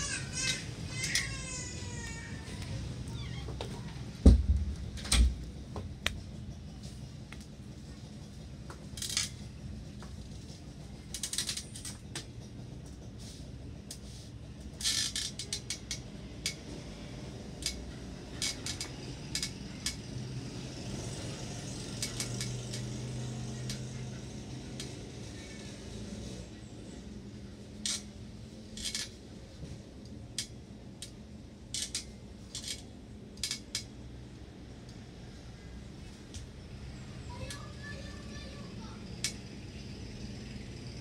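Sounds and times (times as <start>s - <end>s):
low room hum: 0.0s - 41.0s.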